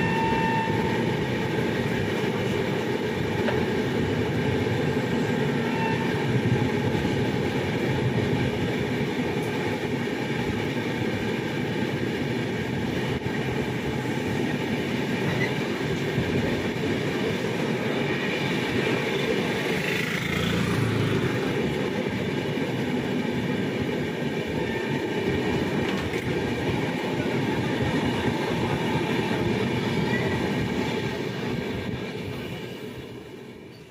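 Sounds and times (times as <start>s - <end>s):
train wheels on rails: 0.0s - 33.9s.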